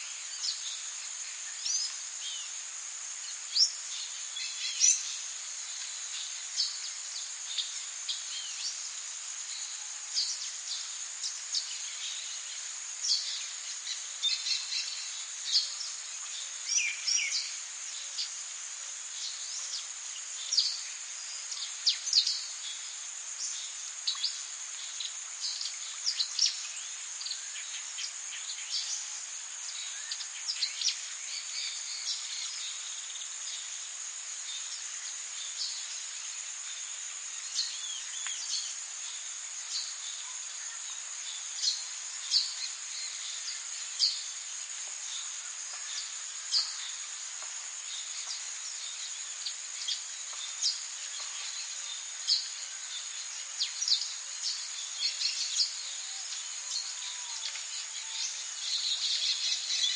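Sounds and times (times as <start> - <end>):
faint hiss: 0.0 - 59.9
high-pitched insect drone: 3.2 - 59.9.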